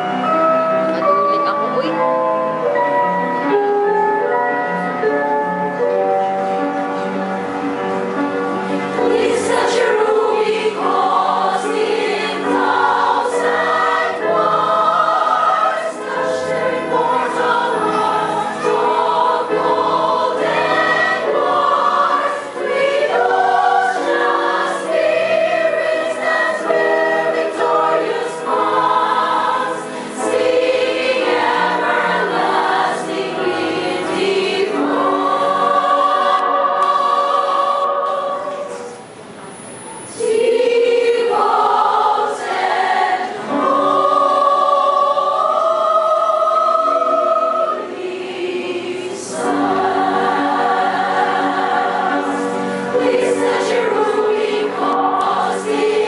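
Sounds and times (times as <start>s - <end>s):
mixed choir singing: 8.7s - 39.0s, 40.0s - 56.0s.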